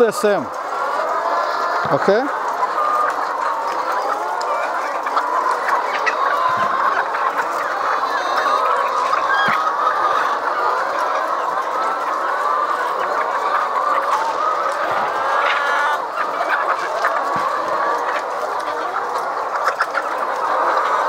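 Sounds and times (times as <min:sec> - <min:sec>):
hens clucking: 0:00.0 - 0:21.0.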